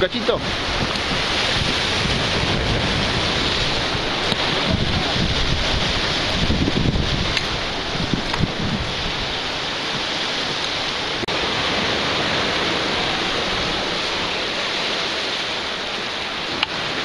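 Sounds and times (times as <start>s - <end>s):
sea surf washing against rocks: 0.0s - 17.0s.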